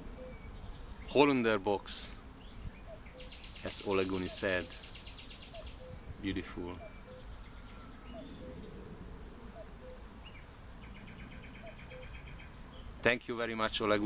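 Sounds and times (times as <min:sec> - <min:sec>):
fast pulsing insect chirp: 0:00.0 - 0:13.1
insects trilling: 0:00.0 - 0:14.0.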